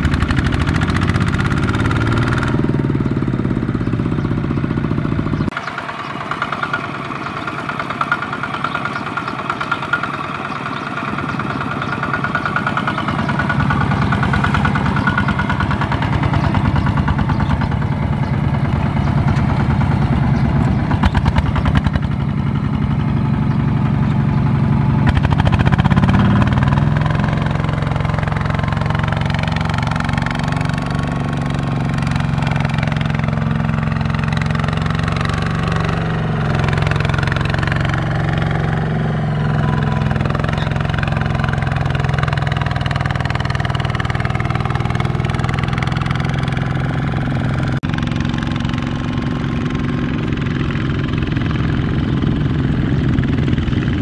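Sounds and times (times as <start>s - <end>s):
tractor diesel engine under load: 0.0s - 54.0s
wheels churning through mud: 0.0s - 54.0s.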